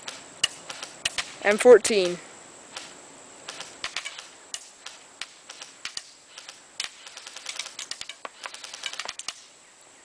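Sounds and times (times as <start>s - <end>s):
airsoft rifle shots clicking: 0.0s - 1.4s, 2.0s - 9.5s.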